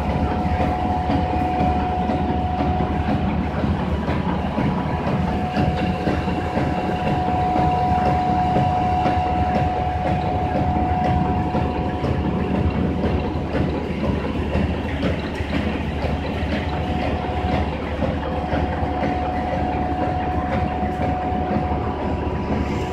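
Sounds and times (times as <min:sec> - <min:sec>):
fast mechanical clatter: 0:00.0 - 0:22.9
low machine rumble: 0:00.0 - 0:22.9
steady high whine: 0:00.0 - 0:22.9.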